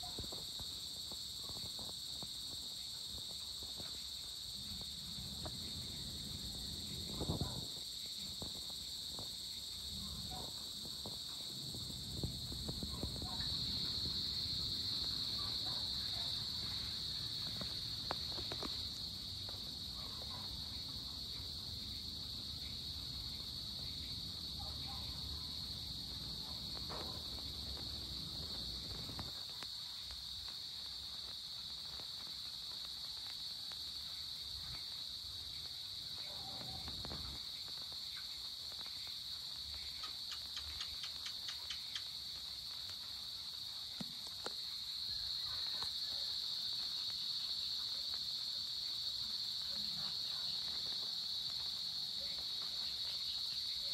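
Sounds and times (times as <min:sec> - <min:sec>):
insects trilling: 0:00.0 - 0:53.9.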